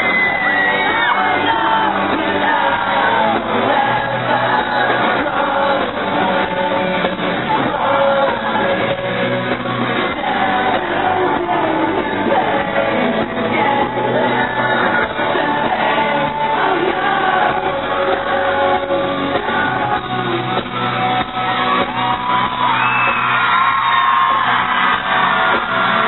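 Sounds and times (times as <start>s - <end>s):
person singing: 0.0s - 21.2s
fans shouting: 0.0s - 26.0s
live rock band: 0.0s - 26.0s.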